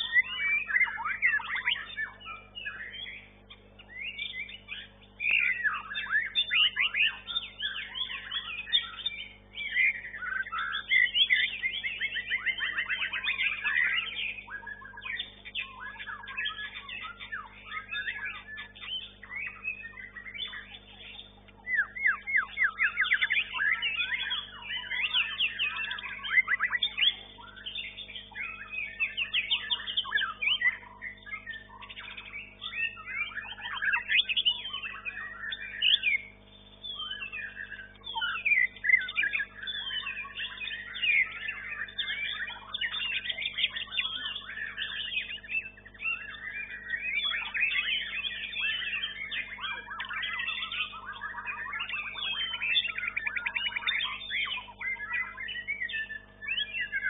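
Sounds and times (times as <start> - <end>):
songbird whistles and trills: 0.0 - 57.0
steady low hum: 0.0 - 57.0.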